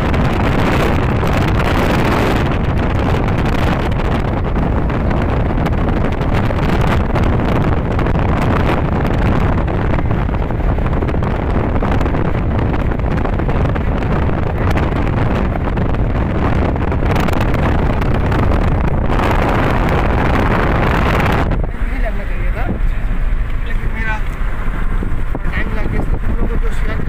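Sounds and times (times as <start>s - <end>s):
tyres rumbling on road: 0.0s - 27.0s
wind buffeting microphone: 0.0s - 27.0s.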